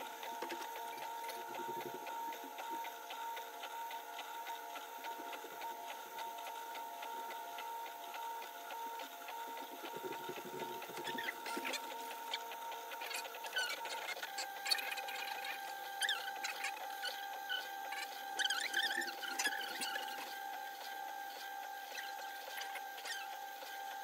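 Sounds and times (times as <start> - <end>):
stepper motors whining: 0.0 - 24.0.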